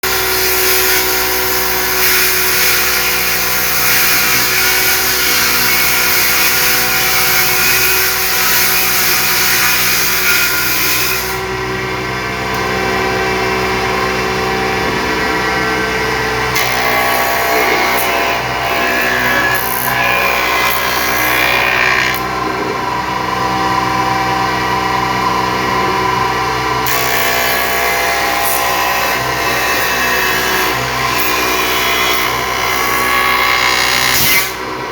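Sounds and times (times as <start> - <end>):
power tool working wood: 0.0 - 34.9.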